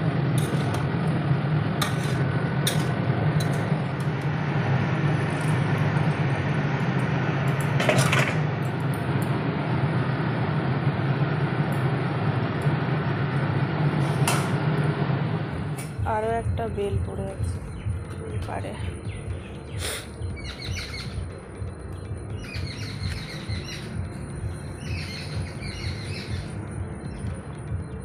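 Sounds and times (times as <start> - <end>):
gas burner rushing: 0.0 - 16.3, 19.2 - 28.0.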